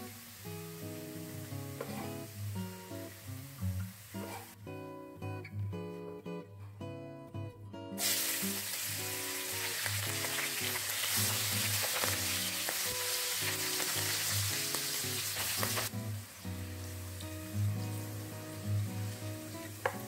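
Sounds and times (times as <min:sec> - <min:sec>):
garlic sizzling in hot oil: 0:00.0 - 0:04.6, 0:08.0 - 0:20.0.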